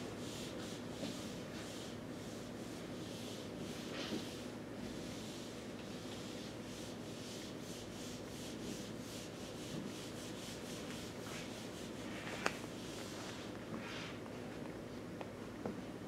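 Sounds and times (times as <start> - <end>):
eraser wiping whiteboard: 0.0 - 14.2.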